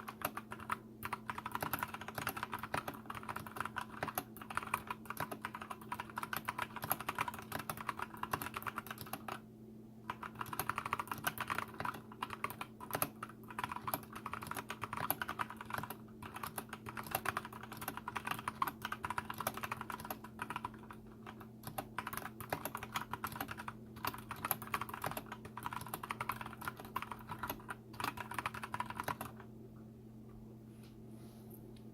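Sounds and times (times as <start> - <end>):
fast typing on mechanical keyboard: 0.0 - 9.4, 10.1 - 29.4
steady low hum: 0.0 - 31.9.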